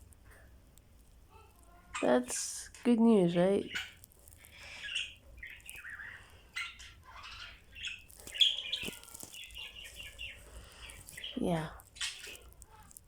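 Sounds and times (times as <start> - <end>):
budgerigars chirping: 1.9 - 13.0.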